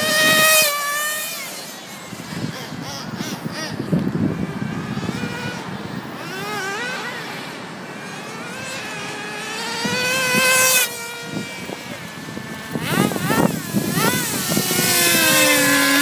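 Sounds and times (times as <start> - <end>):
small engine revving: 0.0 - 16.0.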